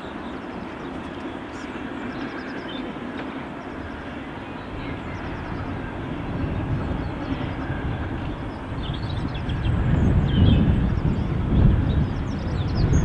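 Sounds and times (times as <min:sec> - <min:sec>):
steam locomotive working hard: 0:00.0 - 0:13.0.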